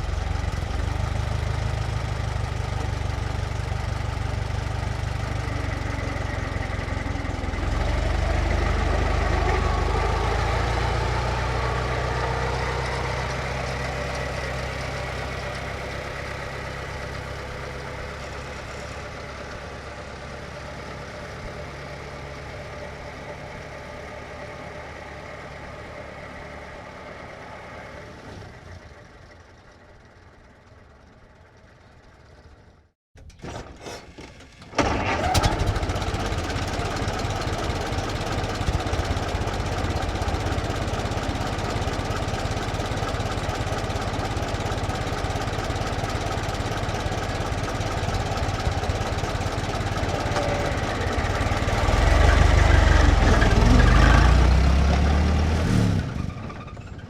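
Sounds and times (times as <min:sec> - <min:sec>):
truck engine running: 0:00.0 - 0:32.9, 0:34.8 - 0:57.0.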